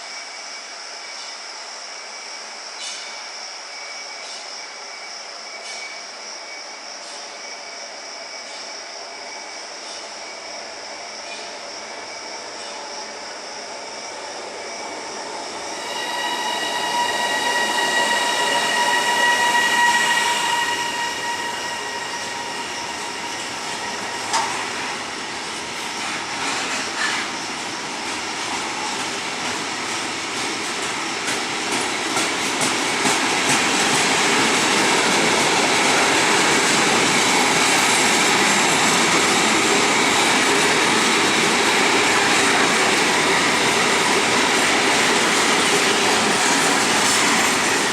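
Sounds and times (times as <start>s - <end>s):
train rushing on rails: 0.0s - 47.9s.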